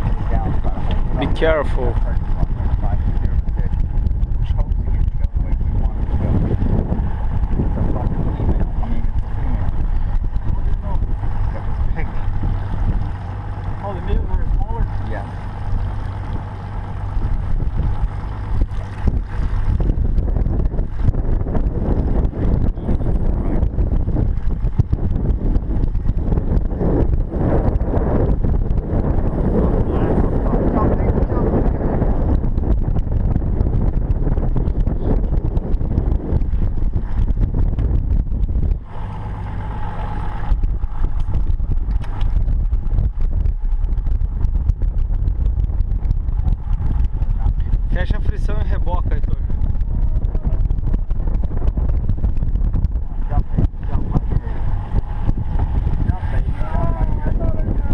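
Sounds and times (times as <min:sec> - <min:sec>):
steady low hum: 0:00.0 - 0:57.9
wind buffeting microphone: 0:00.0 - 0:57.9.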